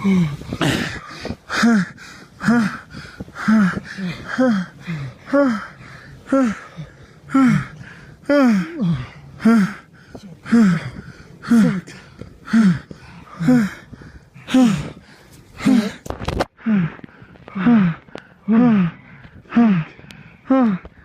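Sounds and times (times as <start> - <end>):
person panting and moaning: 0.0 - 21.0.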